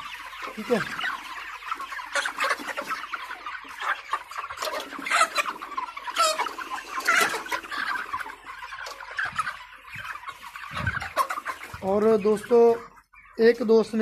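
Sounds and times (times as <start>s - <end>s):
chickens clucking and calling: 0.0s - 14.0s.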